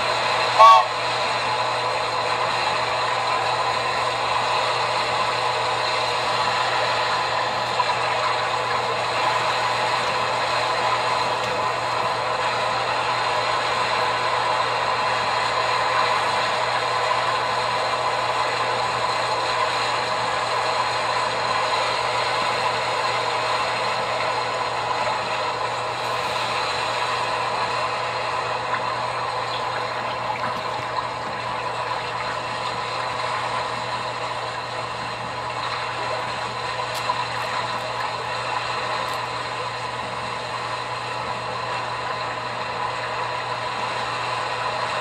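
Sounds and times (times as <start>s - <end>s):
steady machine hum: 0.0s - 45.0s.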